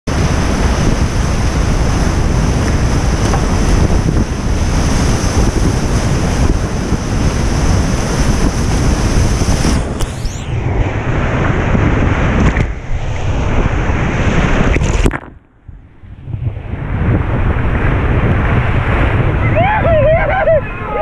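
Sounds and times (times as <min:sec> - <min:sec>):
wind on microphone: 0:00.1 - 0:21.0.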